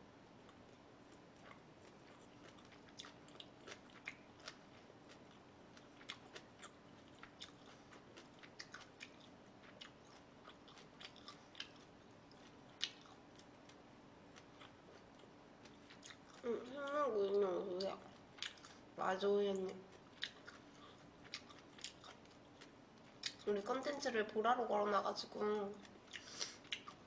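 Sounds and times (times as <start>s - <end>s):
faint steady hum: 0.0s - 27.0s
person chewing food: 0.4s - 17.0s, 17.8s - 18.9s, 19.8s - 23.5s, 25.8s - 27.0s.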